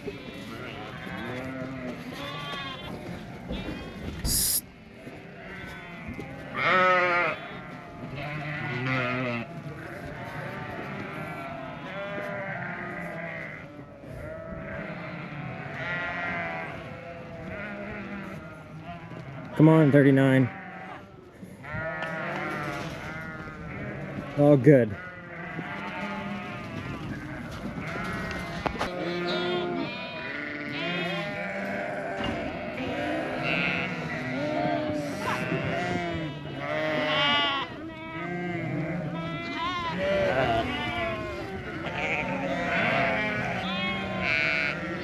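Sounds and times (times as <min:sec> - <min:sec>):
sheep and lambs bleating: 0:00.0 - 0:45.0.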